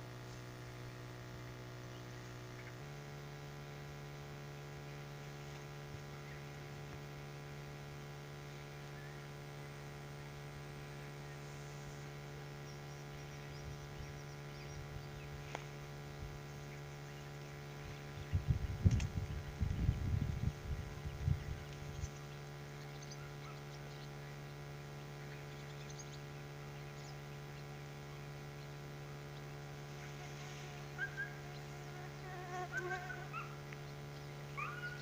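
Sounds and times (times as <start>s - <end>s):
low hum with overtones: 0.0s - 35.0s.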